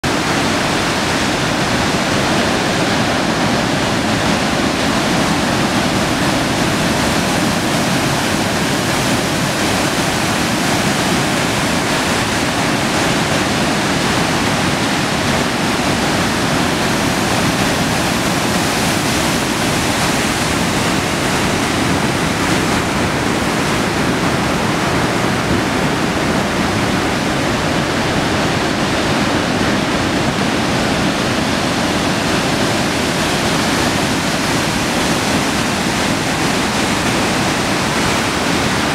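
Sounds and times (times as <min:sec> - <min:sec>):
sea surf breaking: 0:00.0 - 0:38.9.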